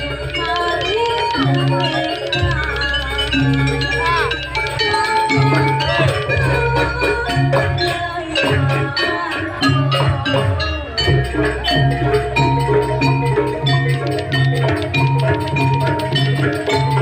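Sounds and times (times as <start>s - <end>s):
drums steady beat: 0.0s - 17.0s
metal mallet percussion melody: 0.0s - 17.0s.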